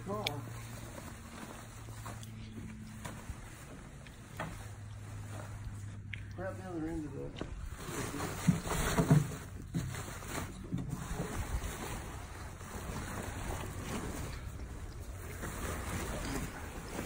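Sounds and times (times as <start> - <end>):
fabric cover rustling: 0.0 - 17.0.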